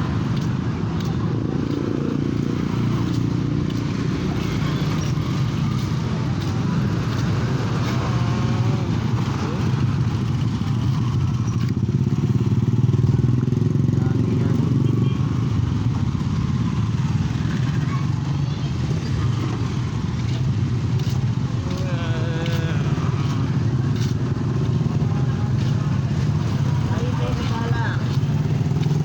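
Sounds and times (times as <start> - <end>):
faint voices: 0.0 - 29.0
vehicle engine rumbling: 0.0 - 29.0.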